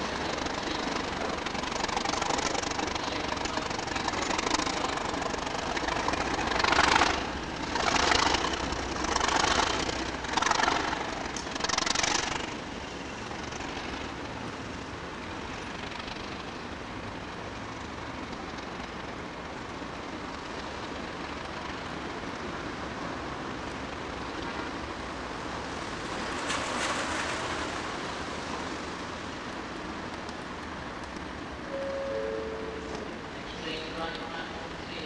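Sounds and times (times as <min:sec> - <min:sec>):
diesel locomotive engines humming: 0:00.0 - 0:35.0
louder surges of engine noise: 0:00.0 - 0:35.0.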